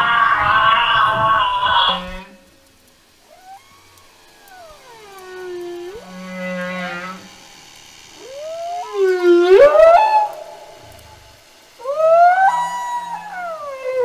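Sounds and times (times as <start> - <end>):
whale moaning calls: 0.0 - 2.6, 4.4 - 7.5, 8.2 - 14.0.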